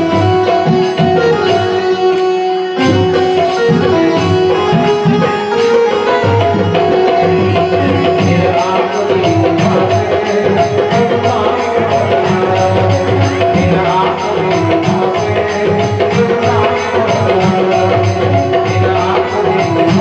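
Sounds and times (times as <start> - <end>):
jingling percussion: 0.0 - 20.0
steady held notes: 0.0 - 20.0
tabla drumming: 0.0 - 20.0.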